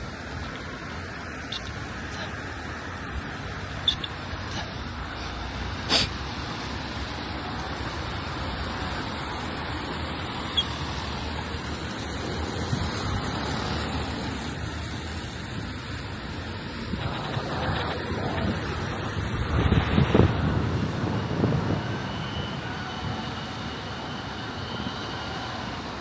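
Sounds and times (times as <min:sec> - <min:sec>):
road traffic going by: 0:00.0 - 0:26.0.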